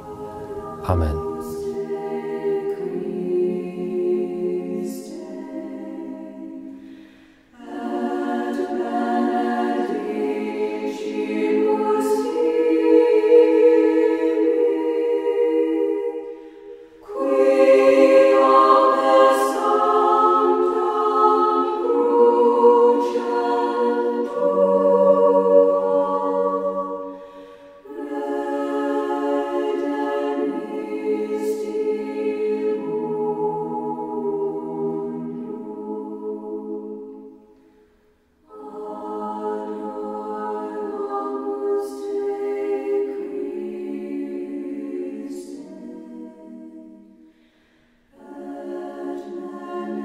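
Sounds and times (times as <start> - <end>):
choir singing unaccompanied: 0.0 - 37.6, 38.4 - 47.4, 48.0 - 50.0.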